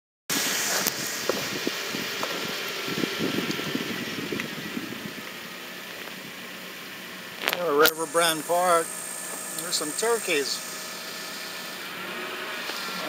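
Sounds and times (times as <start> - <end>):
car engine noise: 0.3 - 13.0
tyre hiss on wet road: 0.3 - 13.0.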